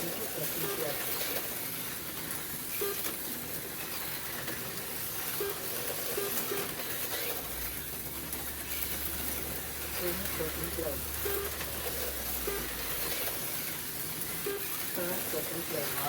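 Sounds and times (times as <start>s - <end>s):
slot car motors whirring: 0.0s - 16.0s.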